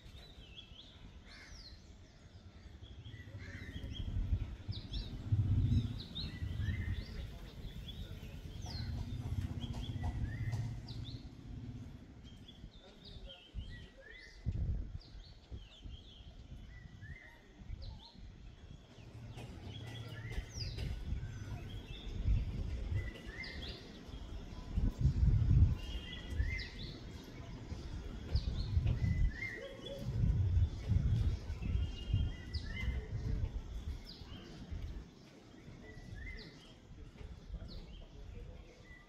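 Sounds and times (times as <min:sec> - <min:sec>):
birds chirping and whistling: 0:02.4 - 0:34.7, 0:35.6 - 0:36.8
wind gusts on microphone: 0:02.8 - 0:39.0.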